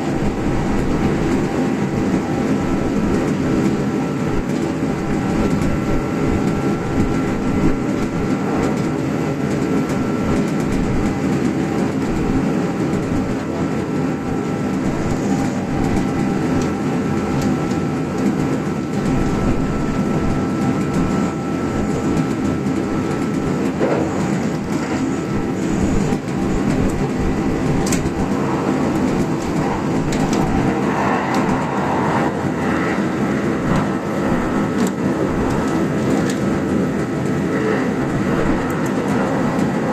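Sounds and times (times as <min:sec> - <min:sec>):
thin steady whine: 0:00.0 - 0:39.9
train wheels rumbling on rail: 0:00.0 - 0:39.9.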